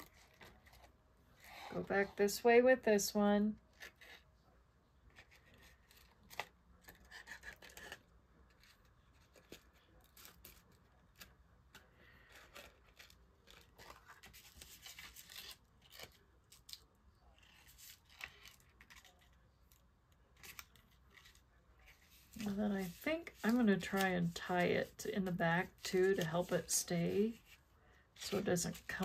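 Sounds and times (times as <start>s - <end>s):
paper card rustling and scratching: 0.0s - 2.2s, 3.6s - 4.4s, 5.1s - 27.6s, 28.2s - 29.0s.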